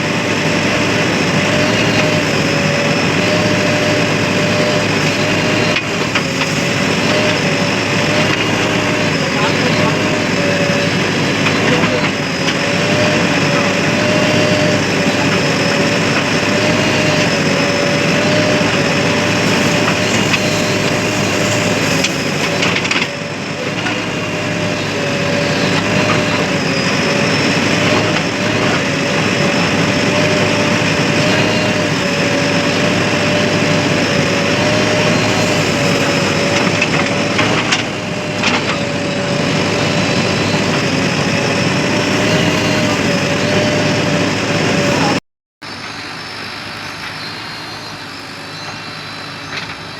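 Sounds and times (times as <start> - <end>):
diesel machinery running: 0.0 - 49.9
wavering mechanical whine: 0.0 - 49.9.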